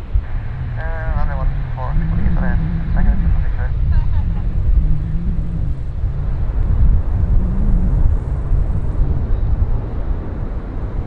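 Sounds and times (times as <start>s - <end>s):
distant jet airliner rumble: 0.0s - 11.0s
wind buffeting microphone: 0.0s - 11.0s.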